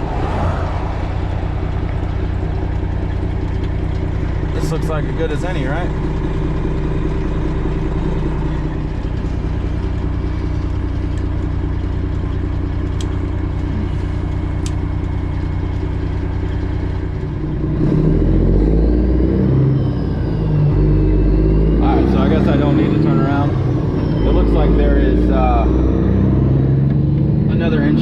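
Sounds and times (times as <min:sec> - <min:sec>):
diesel truck engine revving: 0:00.0 - 0:28.0.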